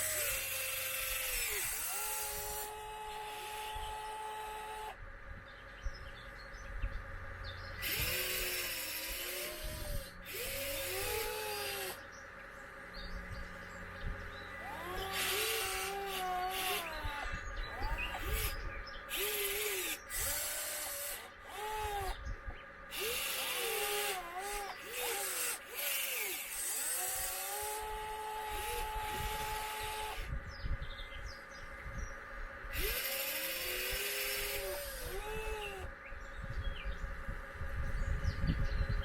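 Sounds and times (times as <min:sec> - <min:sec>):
electric motors whining: 0:00.0 - 0:38.6.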